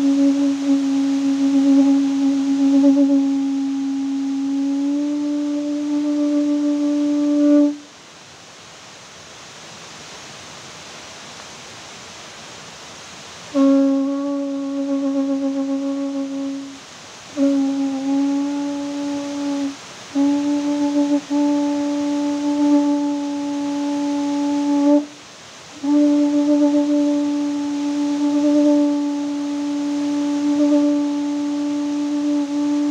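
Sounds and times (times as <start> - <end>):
horn long held notes: 0.0 - 7.9, 13.5 - 32.9
soft steady hiss: 0.0 - 32.9.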